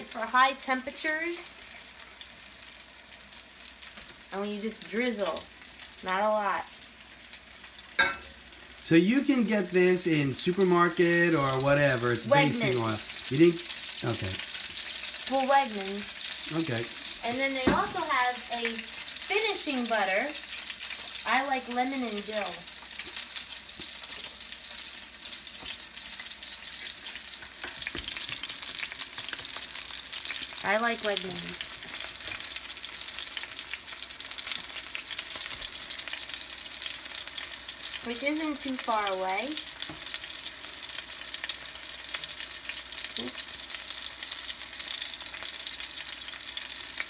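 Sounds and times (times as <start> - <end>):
fish frying in oil: 0.0 - 47.0.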